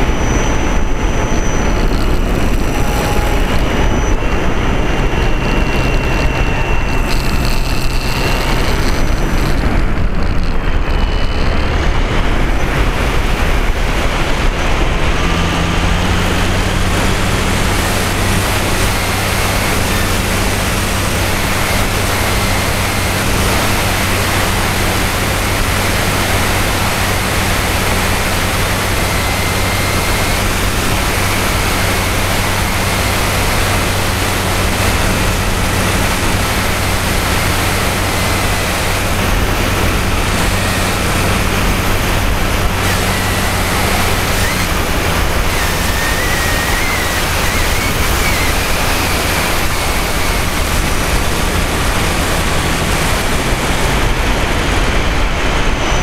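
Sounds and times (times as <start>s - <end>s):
faint high whine: 0.0s - 56.0s
model plane motor drone: 0.0s - 56.0s
wind rushing over camera: 0.0s - 56.0s.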